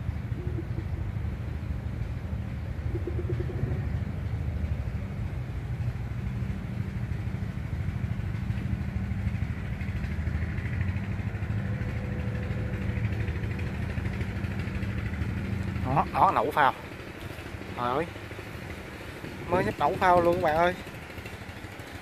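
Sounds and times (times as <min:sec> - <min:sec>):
small engine droning: 0:00.0 - 0:22.0.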